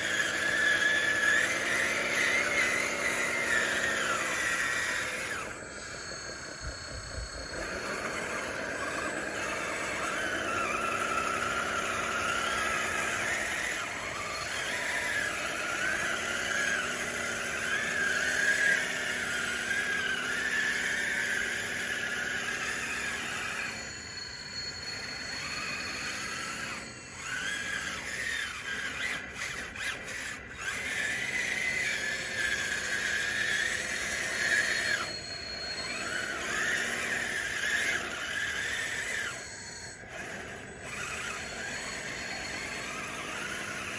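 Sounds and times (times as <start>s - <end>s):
electric motors and gears whining: 0.0s - 43.9s.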